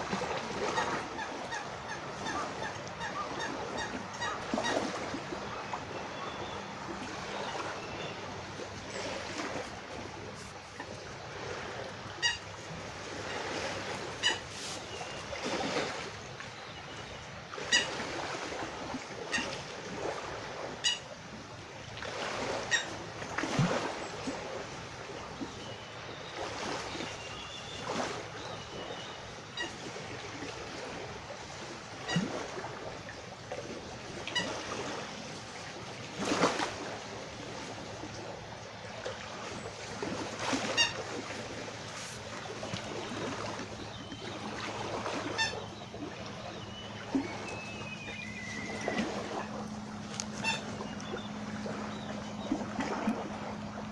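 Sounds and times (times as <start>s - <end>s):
steady outdoor noise: 0.0s - 53.9s.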